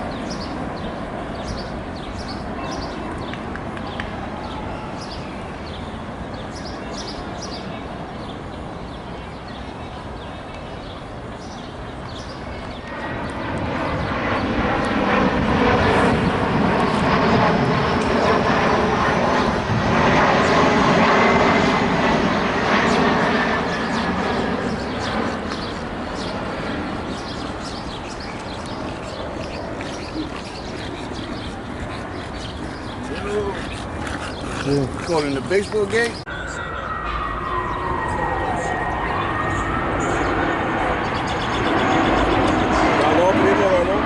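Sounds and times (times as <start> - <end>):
jet airliner passing overhead: 0.0 - 44.0.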